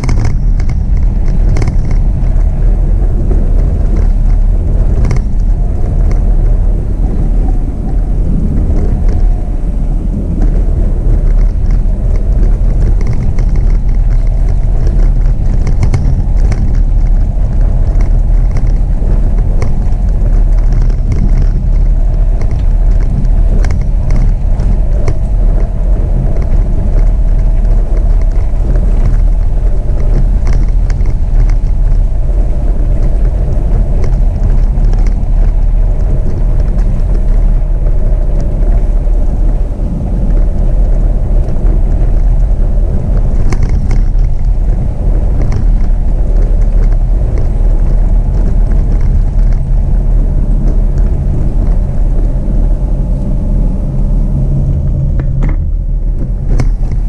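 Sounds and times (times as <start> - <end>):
small ticks and rattles: 0.0 - 52.9, 54.4 - 57.0
car engine and tyres rumbling: 0.0 - 57.0
steady hum: 0.0 - 57.0.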